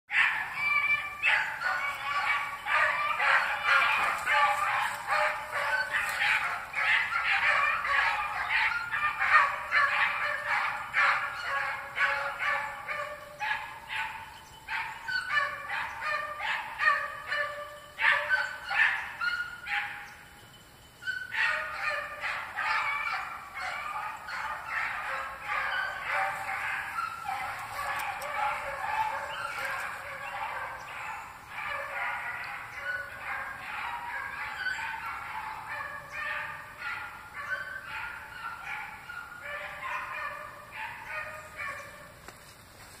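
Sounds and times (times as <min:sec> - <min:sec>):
hounds baying: 0:00.1 - 0:43.0.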